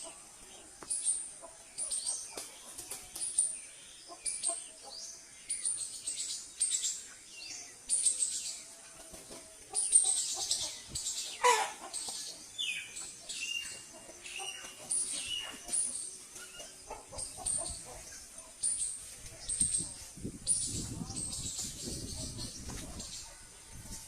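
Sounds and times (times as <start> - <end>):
chickens chirping: 0.0 - 24.0.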